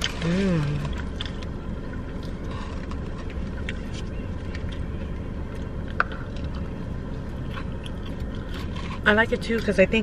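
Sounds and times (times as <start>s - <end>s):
car cabin hum: 0.0s - 10.0s.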